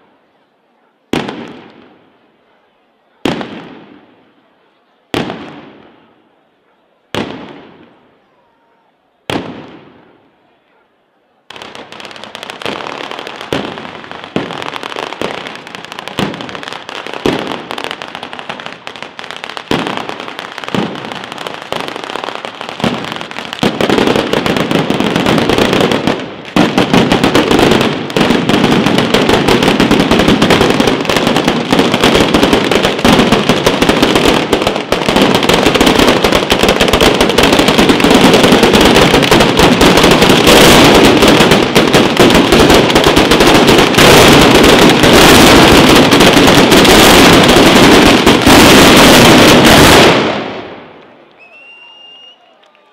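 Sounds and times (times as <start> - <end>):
firecrackers exploding: 1.1 - 2.2, 3.2 - 4.3, 5.1 - 6.1, 7.1 - 8.1, 9.2 - 10.2, 11.5 - 52.4.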